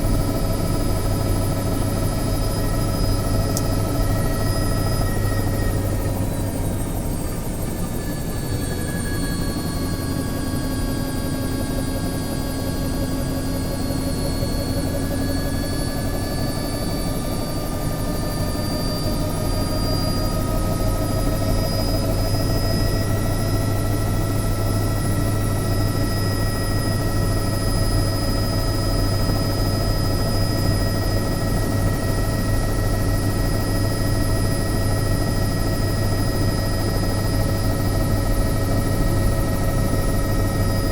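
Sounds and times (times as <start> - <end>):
helicopter rotor beat: 0.0 - 40.9
helicopter turbine whine: 0.0 - 40.9.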